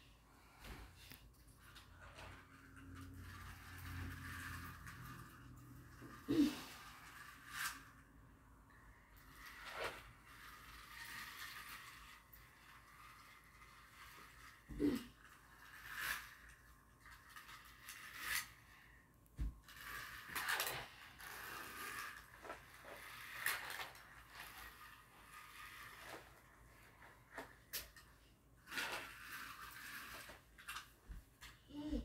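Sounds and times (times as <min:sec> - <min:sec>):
plastic toys clicking and rattling: 0:01.3 - 0:08.1, 0:09.0 - 0:18.8, 0:19.6 - 0:31.6.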